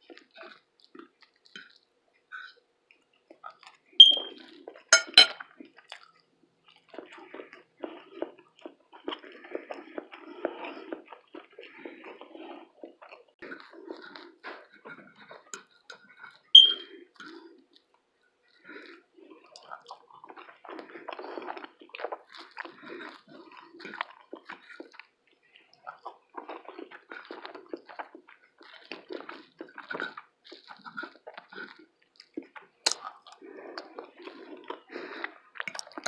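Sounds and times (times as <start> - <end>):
person chewing food: 0.0 - 36.0.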